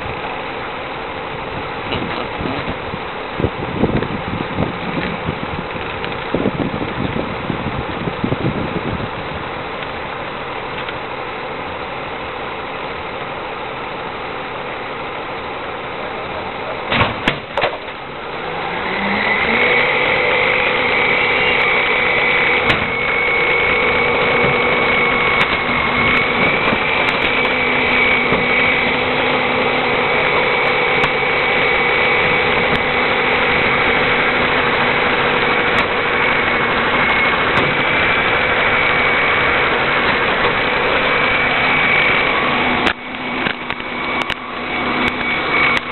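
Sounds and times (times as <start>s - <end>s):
constant high whine: 0.0s - 45.9s
garbage truck engine running: 0.0s - 45.9s.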